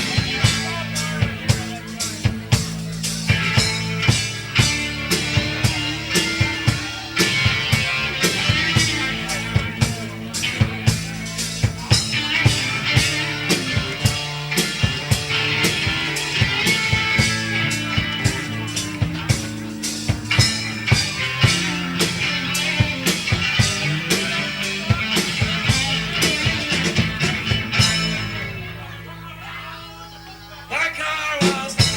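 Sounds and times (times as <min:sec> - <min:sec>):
drum kit beat: 0:00.0 - 0:28.8, 0:31.3 - 0:31.9
rock band playing: 0:00.0 - 0:29.4, 0:30.6 - 0:31.9.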